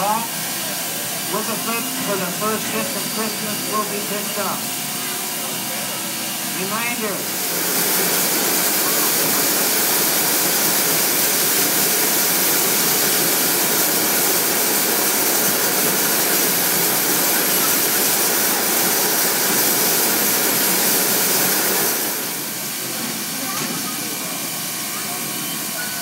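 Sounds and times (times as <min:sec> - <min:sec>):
steam hissing from locomotive: 0:00.0 - 0:26.0.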